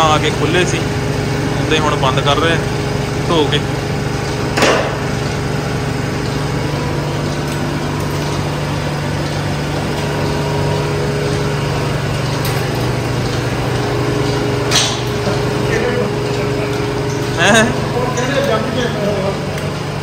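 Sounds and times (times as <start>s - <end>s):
milking machinery humming: 0.0s - 20.0s.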